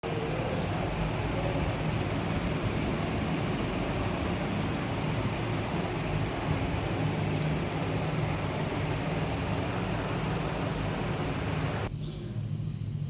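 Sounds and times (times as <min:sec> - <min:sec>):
low hum: 0:00.0 - 0:11.9
steady background noise: 0:00.0 - 0:13.0.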